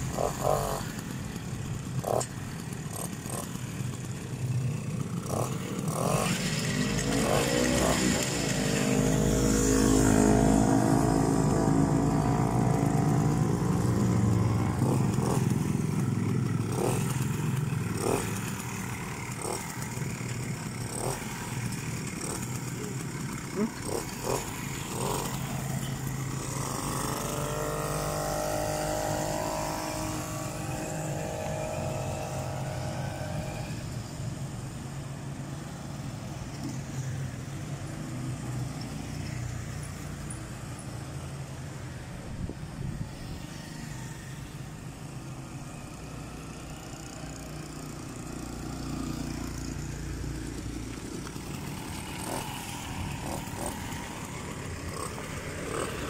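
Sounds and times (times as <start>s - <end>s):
two-stroke engine revving: 0.0s - 40.9s, 43.4s - 56.0s
road traffic noise: 0.0s - 56.0s.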